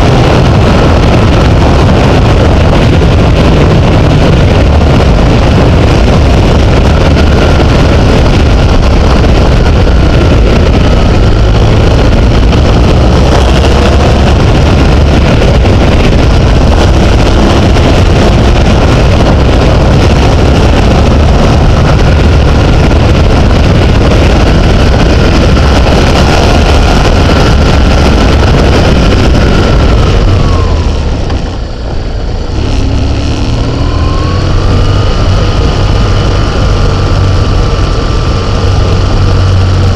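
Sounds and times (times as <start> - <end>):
faint vehicle whine: 0.0 - 39.9
wind buffeting microphone: 0.0 - 39.9.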